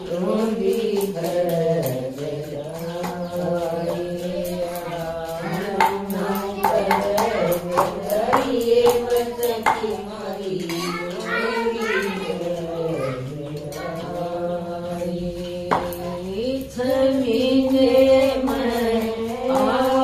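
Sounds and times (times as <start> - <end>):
women singing a hymn: 0.0 - 20.0.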